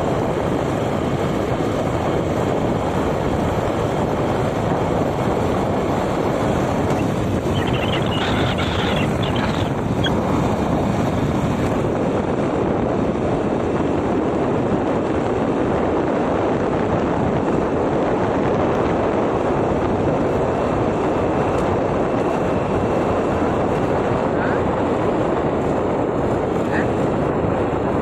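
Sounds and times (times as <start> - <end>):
vehicle road noise: 0.0 - 28.0
wind buffeting microphone: 0.0 - 28.0.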